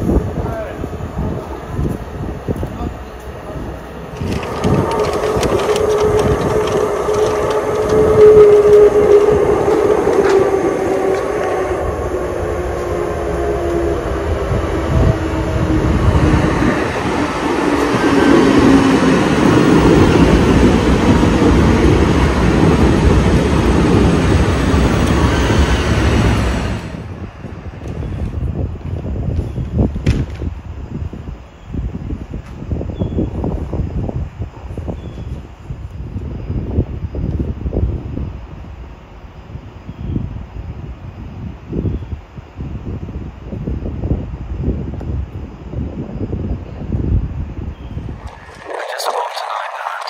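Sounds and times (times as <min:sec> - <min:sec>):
train wheel and track rumble: 0:00.0 - 0:50.0.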